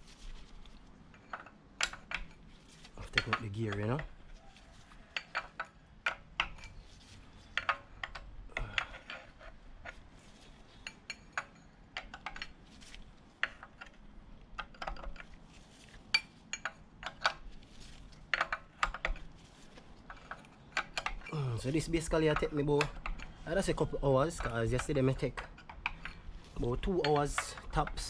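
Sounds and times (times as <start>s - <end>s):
metal engine parts clinking: 1.0s - 4.3s, 4.9s - 28.0s.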